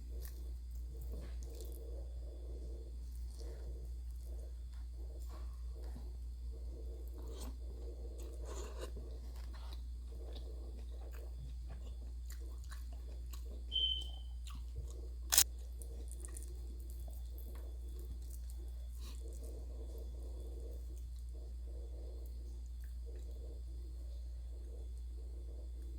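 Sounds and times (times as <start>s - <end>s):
person chewing crunchy food: 0.0s - 23.7s.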